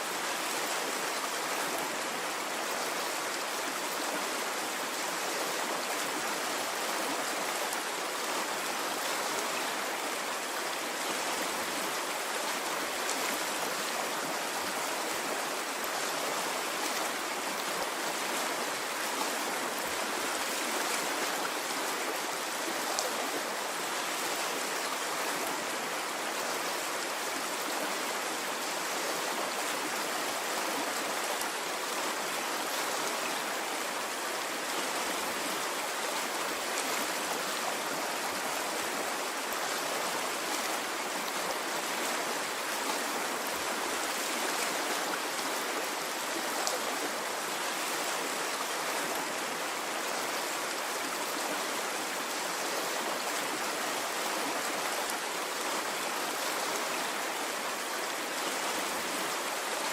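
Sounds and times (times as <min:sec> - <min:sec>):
stream of water flowing: 0:00.0 - 0:59.9.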